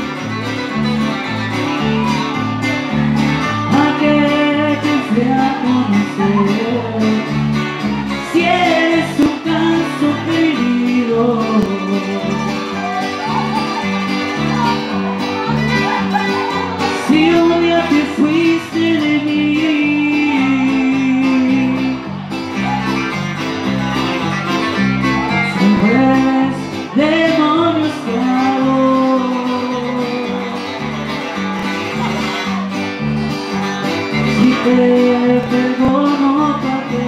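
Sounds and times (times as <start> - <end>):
acoustic guitars: 0.0 - 37.0
electric bass: 0.0 - 37.0.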